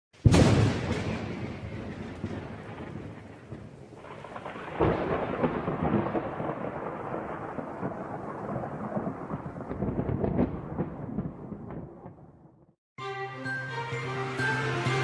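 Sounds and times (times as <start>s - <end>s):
thunder rumbling and crackling: 0.2s - 12.7s.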